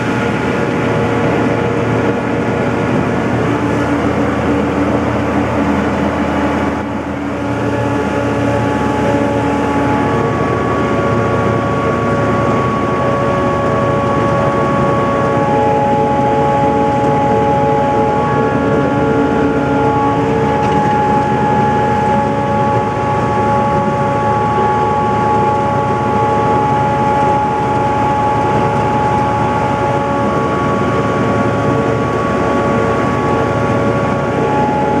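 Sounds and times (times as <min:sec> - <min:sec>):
locomotive engine drone: 0:00.0 - 0:35.0
steady held tones: 0:00.0 - 0:35.0.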